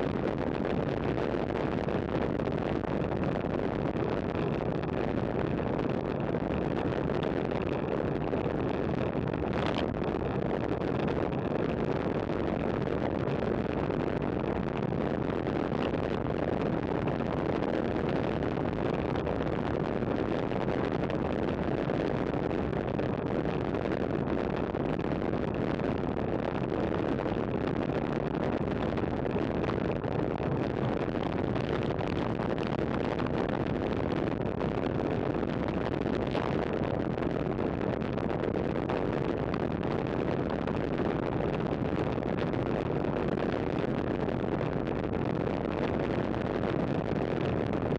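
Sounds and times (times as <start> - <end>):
wind on microphone: 0.0 - 47.9.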